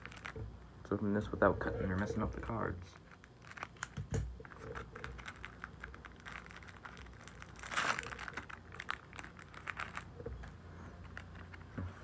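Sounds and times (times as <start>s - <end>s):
plastic wrapper crinkling: 0.0s - 0.7s, 1.3s - 12.0s.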